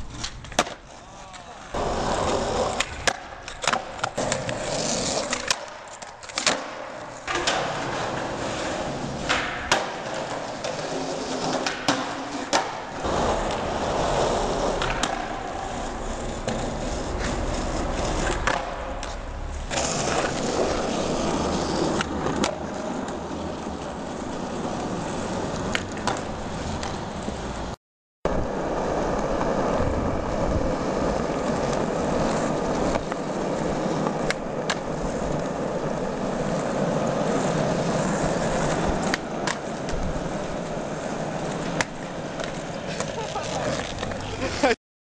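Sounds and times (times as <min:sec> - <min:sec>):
skateboard wheels rolling on asphalt: 0:00.0 - 0:44.8
skateboard clacking on ground: 0:00.1 - 0:27.6, 0:30.9 - 0:44.6.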